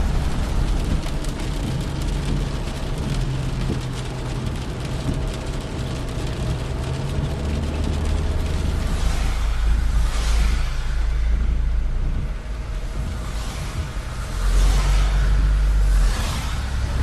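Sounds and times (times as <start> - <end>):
rain on car roof: 0.0 - 17.0
steady low rumble: 0.0 - 17.0.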